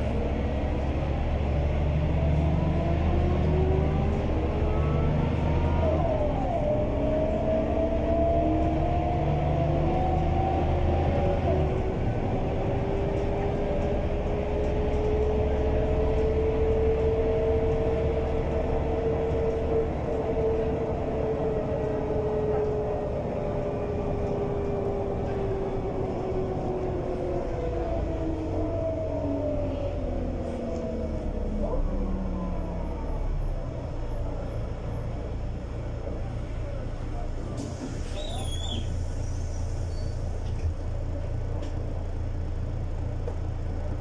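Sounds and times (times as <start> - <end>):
bus diesel engine humming: 0.0 - 44.0.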